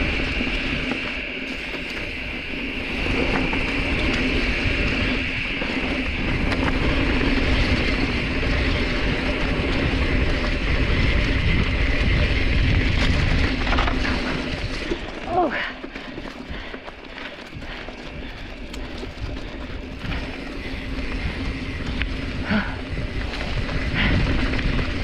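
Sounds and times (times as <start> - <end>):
wind on microphone: 0.0 - 16.8, 17.4 - 25.0
bike rattling: 0.0 - 25.0.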